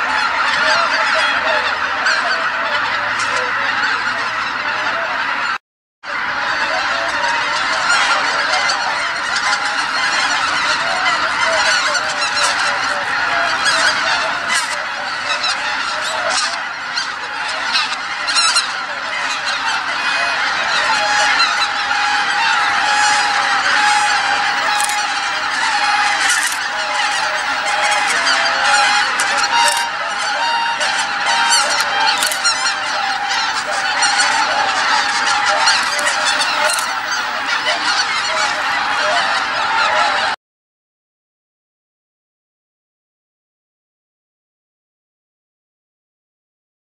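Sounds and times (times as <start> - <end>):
flock of geese honking: 0.0 - 40.4.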